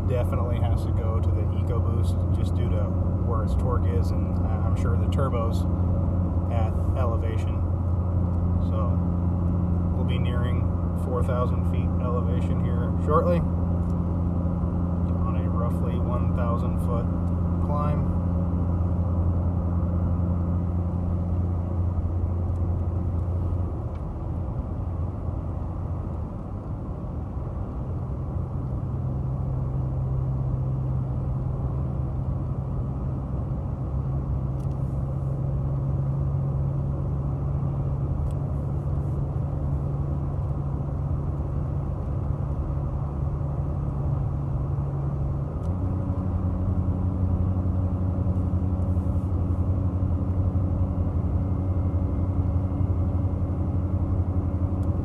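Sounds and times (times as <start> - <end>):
road noise: 0.0 - 55.0
truck engine drone under load: 0.0 - 55.0.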